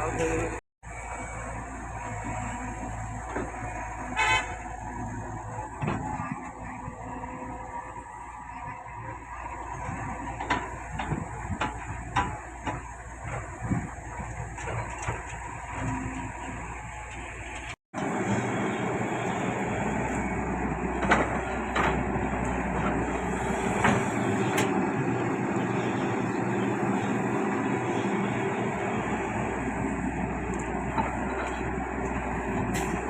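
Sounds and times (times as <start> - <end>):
diesel machinery engine: 0.0 - 33.0.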